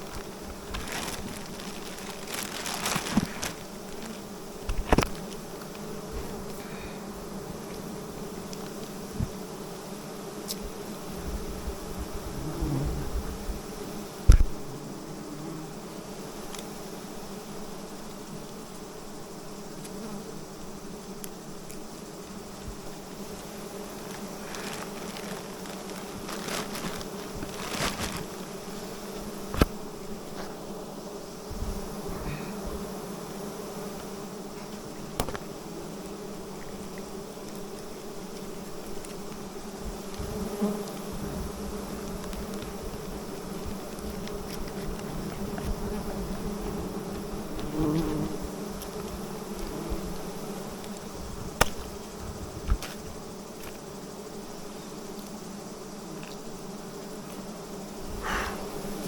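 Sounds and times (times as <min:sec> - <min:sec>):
bees buzzing: 0:00.0 - 0:59.0
rustles: 0:00.0 - 0:59.0.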